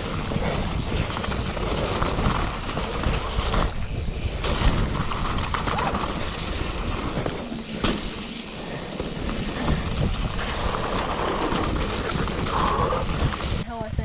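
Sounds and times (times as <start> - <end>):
wind on microphone: 0.0 - 7.6, 8.6 - 14.0.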